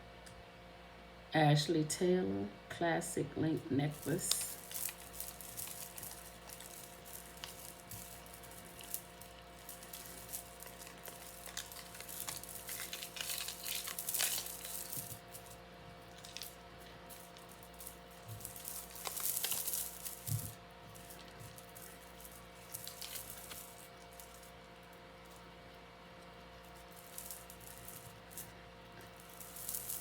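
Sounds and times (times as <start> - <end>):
faint steady hum: 0.0 - 30.0
plastic bag crinkling: 3.6 - 30.0
chain necklace clicking: 3.9 - 24.6, 26.2 - 30.0.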